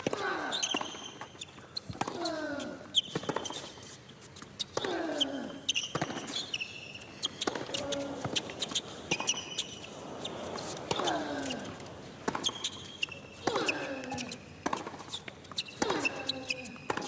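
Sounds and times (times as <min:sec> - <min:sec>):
sneakers squeaking: 0:00.0 - 0:17.0.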